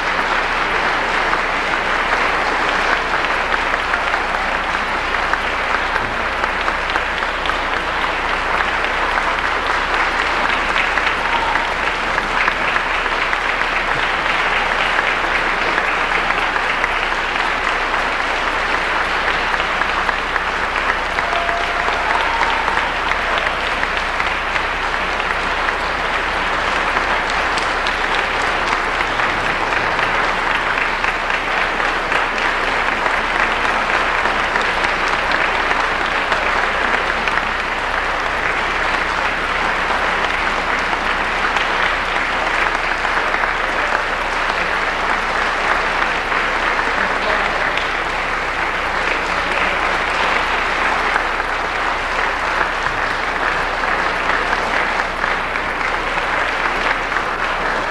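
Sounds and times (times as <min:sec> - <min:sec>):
audience applauding: 0:00.0 - 0:57.9.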